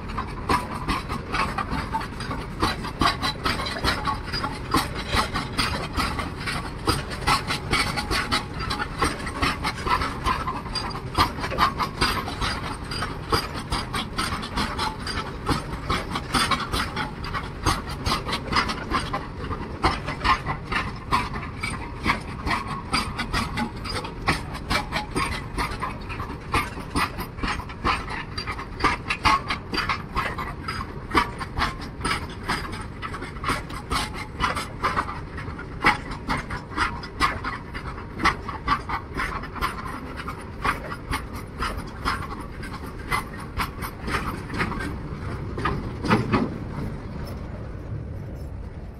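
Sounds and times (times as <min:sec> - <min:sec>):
freight wagon wheels clattering: 0:00.0 - 0:48.9
steady train rumble: 0:00.0 - 0:48.9.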